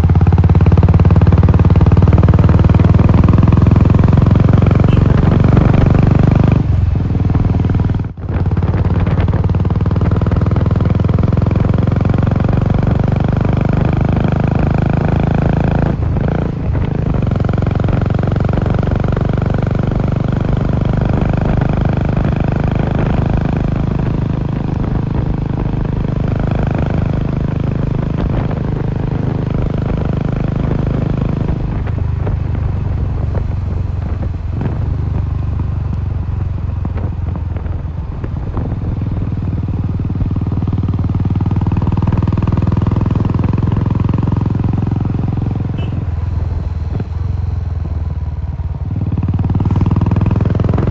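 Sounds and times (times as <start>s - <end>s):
motorcycle engine thudding exhaust: 0.0s - 50.9s.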